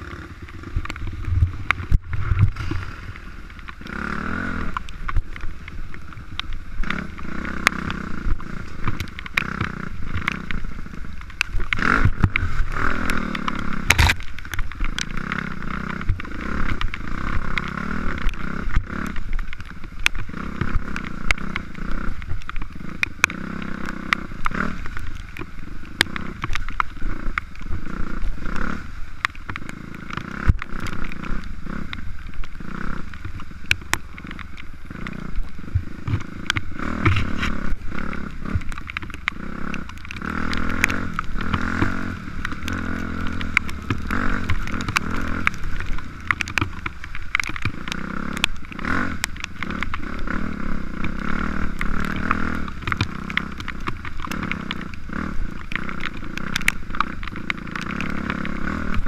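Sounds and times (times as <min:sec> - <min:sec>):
dirt bike engine revving: 0:00.0 - 0:14.2, 0:14.8 - 0:59.0.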